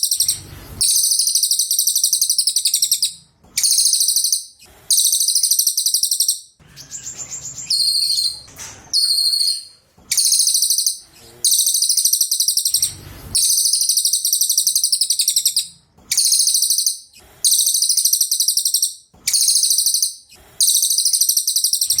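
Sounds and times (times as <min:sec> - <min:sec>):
songbird singing trilled phrases: 0:00.0 - 0:22.0.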